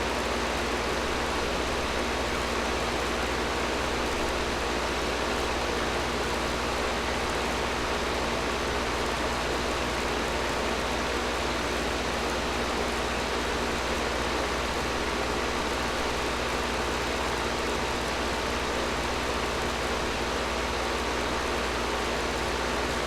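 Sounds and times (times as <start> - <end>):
air conditioner running: 0.0 - 23.0.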